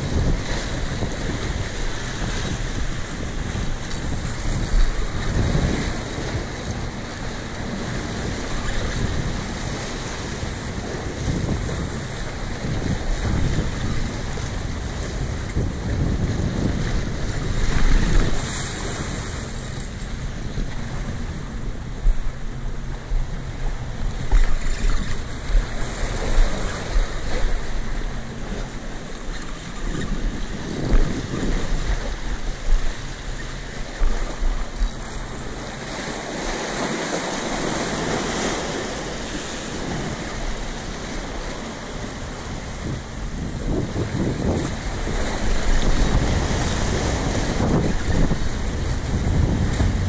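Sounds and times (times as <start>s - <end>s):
waves splashing against rocks: 0.0s - 50.0s
wind buffeting microphone: 0.0s - 50.0s.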